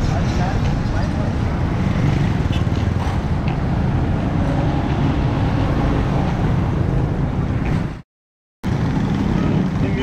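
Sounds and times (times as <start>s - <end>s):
street traffic: 0.0s - 8.0s, 8.6s - 10.0s.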